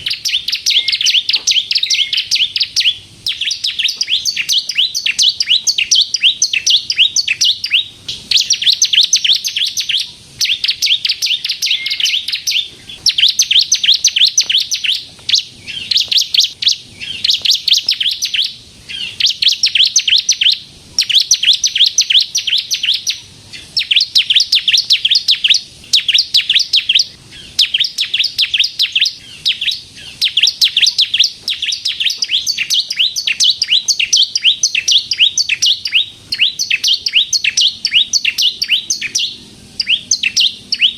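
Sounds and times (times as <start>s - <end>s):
bird singing rapid trills: 0.0s - 40.9s.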